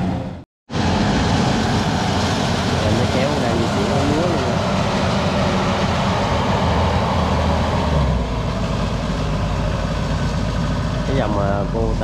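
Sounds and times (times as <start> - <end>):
small tracked vehicle engine: 0.0 - 12.0.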